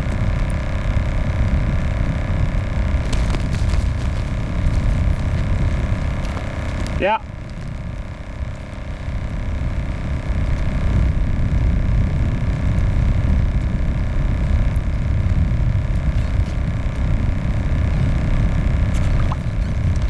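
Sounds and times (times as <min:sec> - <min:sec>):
faint even hum: 0:00.0 - 0:20.0
wind buffeting microphone: 0:00.0 - 0:20.0.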